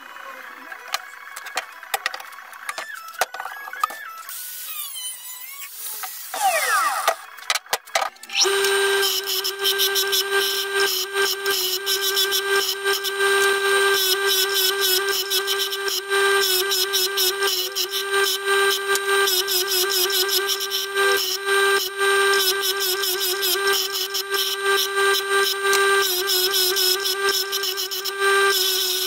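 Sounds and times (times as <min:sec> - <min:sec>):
bench grinder grinding steel: 0:01.4 - 0:29.0.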